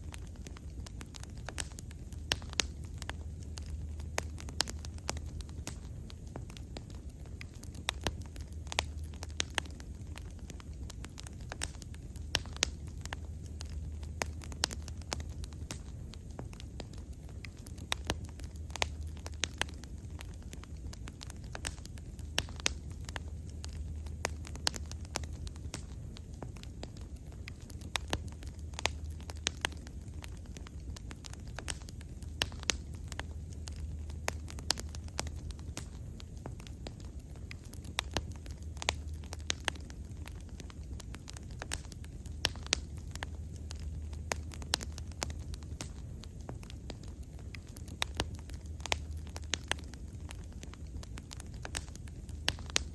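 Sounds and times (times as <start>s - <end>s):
low rumble of flames: 0.0s - 52.9s
wood fire crackling and popping: 0.0s - 52.9s.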